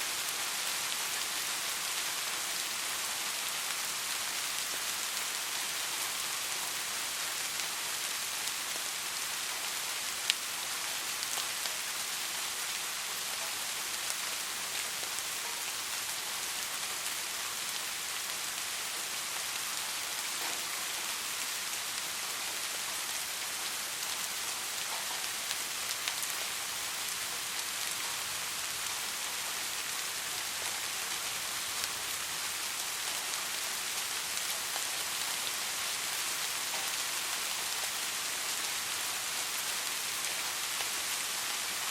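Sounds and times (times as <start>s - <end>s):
soft rain falling: 0.0s - 41.9s.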